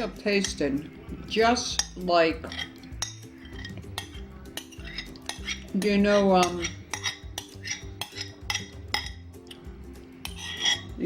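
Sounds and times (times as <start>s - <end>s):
spoon scraping a bowl: 1.6s - 11.0s.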